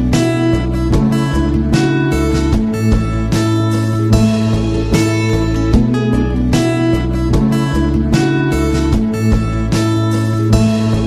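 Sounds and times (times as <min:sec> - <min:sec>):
bass notes: 0:00.0 - 0:11.0
guitar strumming chords: 0:00.0 - 0:11.0.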